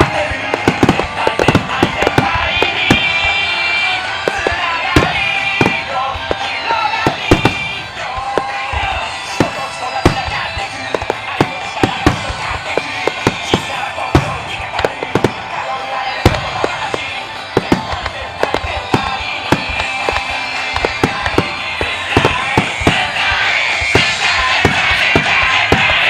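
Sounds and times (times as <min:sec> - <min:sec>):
fireworks bursting: 0:00.0 - 0:26.0
music over sound system: 0:00.0 - 0:26.0.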